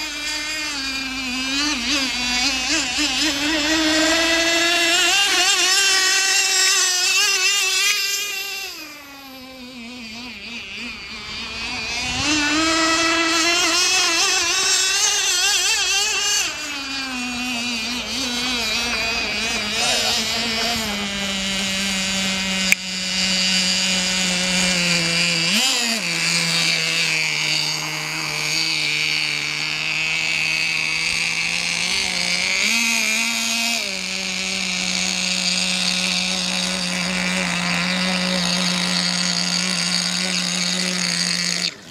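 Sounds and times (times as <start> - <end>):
small model boat engine running: 0.0 - 41.9.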